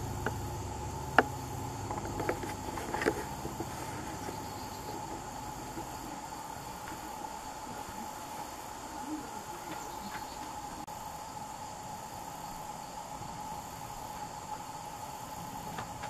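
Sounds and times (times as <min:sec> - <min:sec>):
background hiss: 0:00.0 - 0:16.0
insect chorus trilling: 0:00.0 - 0:16.0.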